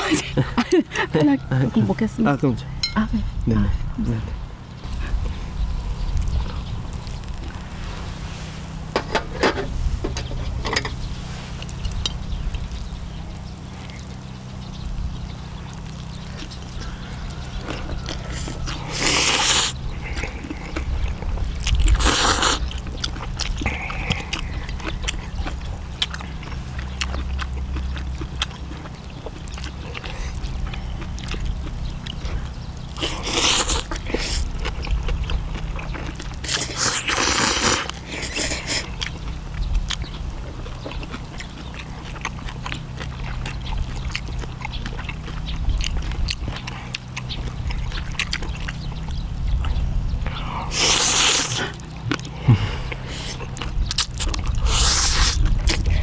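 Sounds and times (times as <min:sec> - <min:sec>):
people chewing: 0:00.0 - 0:02.4, 0:03.6 - 0:56.0
steady low hum: 0:00.0 - 0:56.0.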